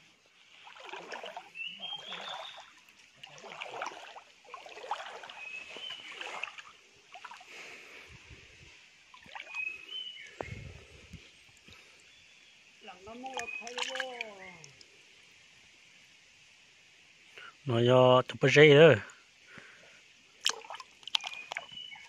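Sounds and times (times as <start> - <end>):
creek water splashing: 0.0 - 15.6, 19.0 - 22.0.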